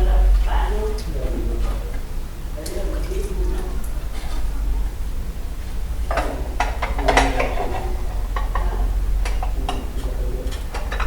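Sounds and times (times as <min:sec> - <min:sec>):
dishes and utensils clinking: 0:00.0 - 0:11.0
steady low rumble: 0:00.0 - 0:11.0.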